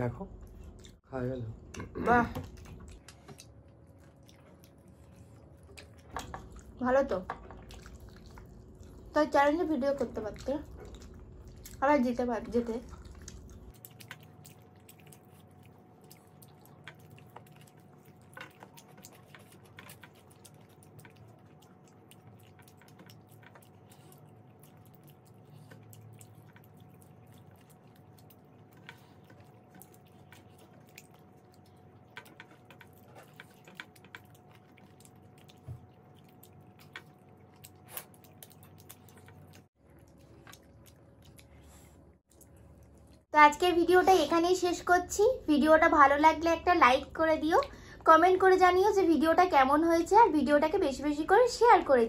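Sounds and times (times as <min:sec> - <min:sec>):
faint steady hum: 0:00.0 - 0:52.0
soft chewing: 0:00.2 - 0:43.3.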